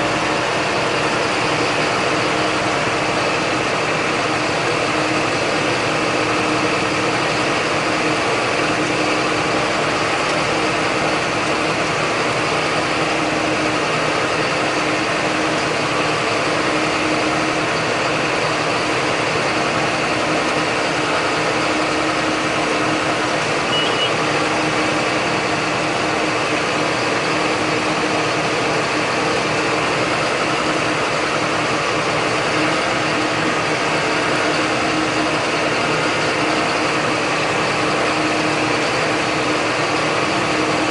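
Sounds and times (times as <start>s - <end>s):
tractor diesel engine droning: 0.0s - 40.9s.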